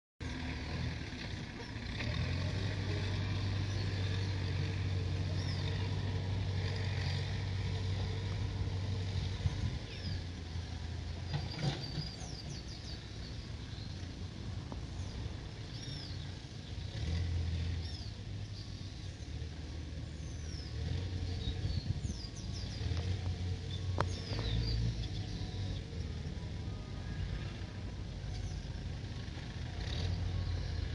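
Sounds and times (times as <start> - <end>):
diesel engines rumbling: 0.2 - 30.9.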